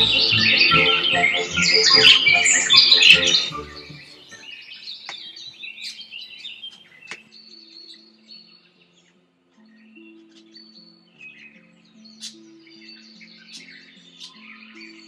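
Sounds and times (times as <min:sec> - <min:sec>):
soft music tones: 0:00.0 - 0:04.6, 0:06.7 - 0:15.0
birds chirping: 0:00.0 - 0:15.0.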